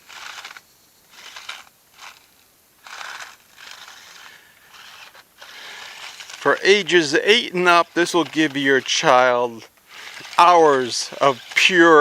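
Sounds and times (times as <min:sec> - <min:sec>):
toy car motors whirring: 0:00.0 - 0:12.0.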